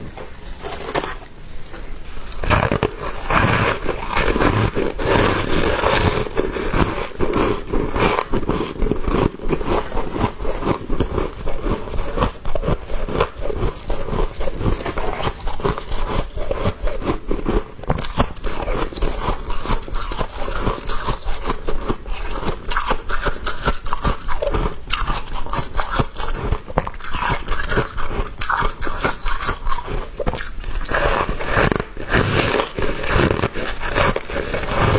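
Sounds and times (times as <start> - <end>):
chewing crunchy ice: 2.2 - 34.9.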